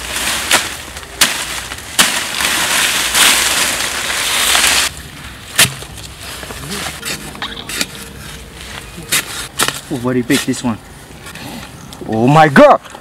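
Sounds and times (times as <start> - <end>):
undergrowth rustling: 0.0 - 12.6.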